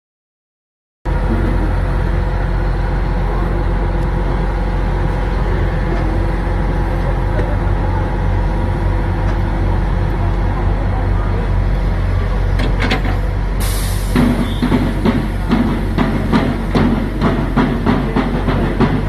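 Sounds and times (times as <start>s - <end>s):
heavy machinery engines humming: 1.1s - 19.0s.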